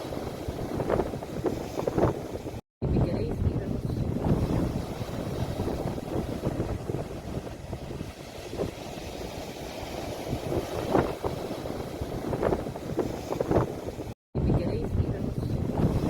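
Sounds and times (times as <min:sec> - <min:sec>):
sea waves washing in: 0:00.0 - 0:14.2, 0:15.0 - 0:16.0
wind buffeting microphone: 0:00.0 - 0:16.0.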